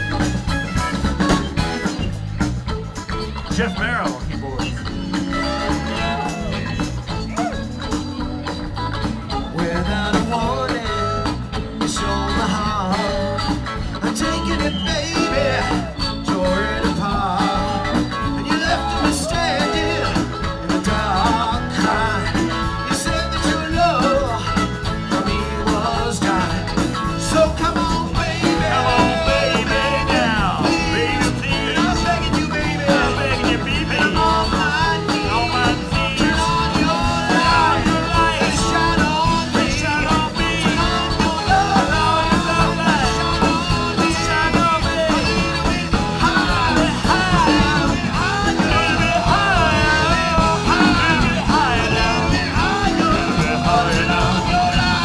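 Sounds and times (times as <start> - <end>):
drums: 0.0 - 55.0
electric guitar: 0.0 - 55.0
organ: 0.0 - 55.0
man singing into a microphone: 3.5 - 7.6, 9.4 - 55.0.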